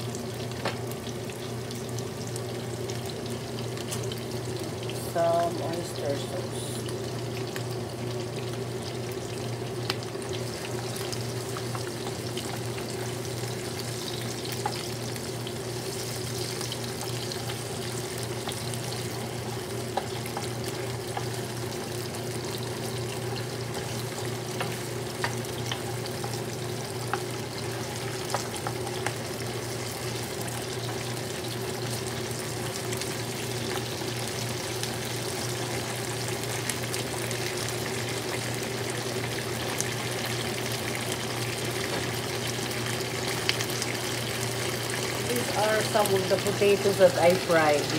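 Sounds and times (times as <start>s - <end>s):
onion and meat sizzling in oil: 0.0s - 47.9s.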